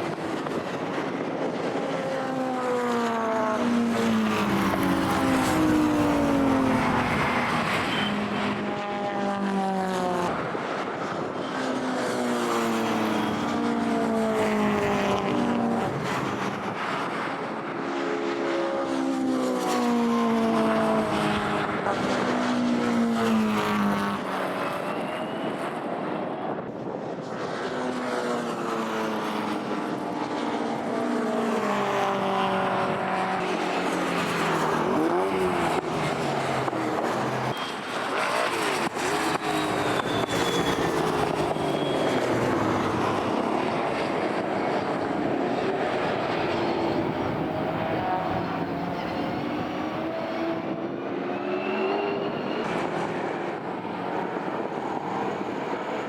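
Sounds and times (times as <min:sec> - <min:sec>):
racing car engines at full throttle: 0:00.0 - 0:56.0.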